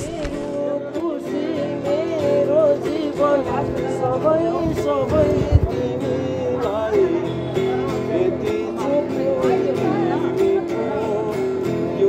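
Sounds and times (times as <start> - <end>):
song with singing and beat: 0.0 - 12.0.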